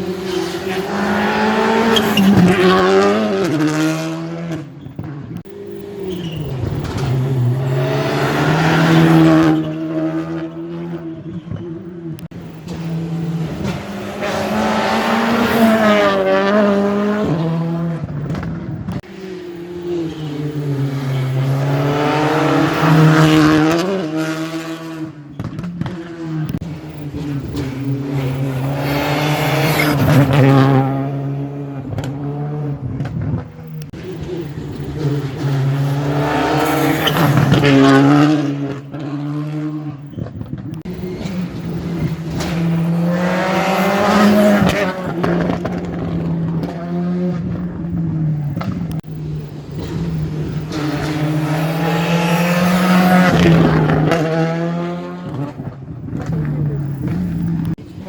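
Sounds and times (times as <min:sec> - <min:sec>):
cars passing by: 0:00.0 - 0:58.0
rally car engines revving: 0:00.0 - 0:58.0.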